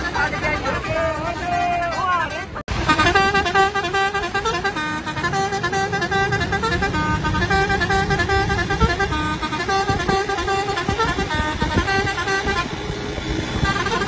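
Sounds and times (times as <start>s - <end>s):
bus rumbling: 0.0s - 14.0s
musical horn playing a tune: 0.0s - 14.0s
traffic: 0.0s - 14.0s.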